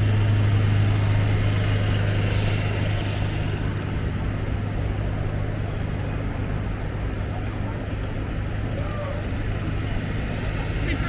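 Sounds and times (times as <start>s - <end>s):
city street noise: 0.0s - 11.0s.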